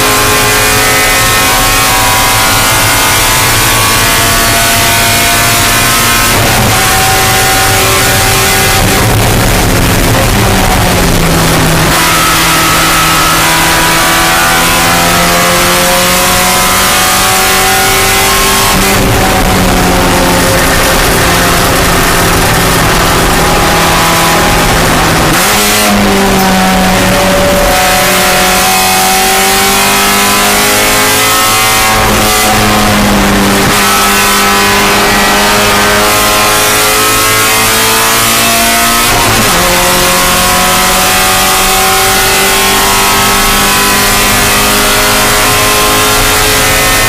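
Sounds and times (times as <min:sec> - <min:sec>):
race car engine revving: 0:00.0 - 0:47.0
wind and road noise: 0:00.0 - 0:47.0.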